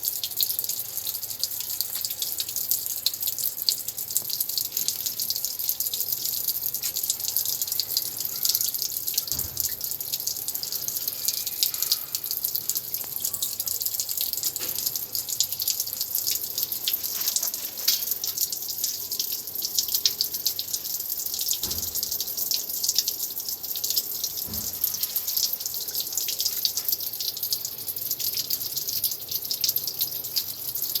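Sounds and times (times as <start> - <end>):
water spraying and dripping: 0.0 - 31.0.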